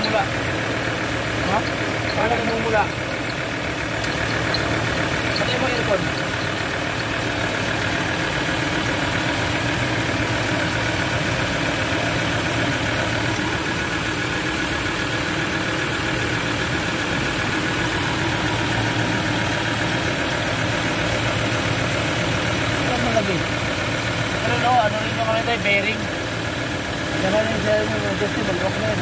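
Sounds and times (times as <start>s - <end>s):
grating belt drive noise: 0.0s - 23.7s
diesel engine idling: 0.0s - 29.0s.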